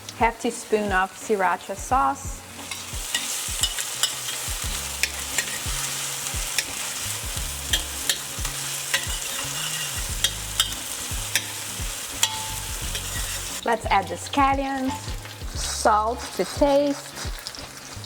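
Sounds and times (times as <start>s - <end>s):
food sizzling in hot oil: 0.0s - 18.0s
utensil scraping a pot: 2.5s - 18.0s.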